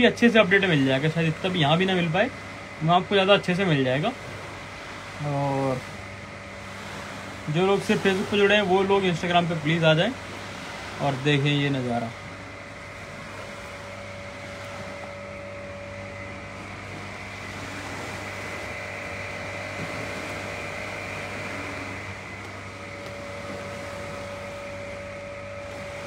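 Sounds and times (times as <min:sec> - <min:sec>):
mechanical hum: 0:00.0 - 0:26.0.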